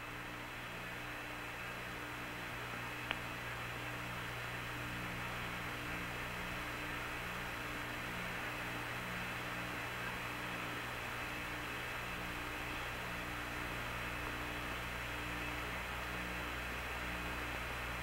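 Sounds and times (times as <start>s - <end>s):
radio hiss: 0.0s - 18.0s.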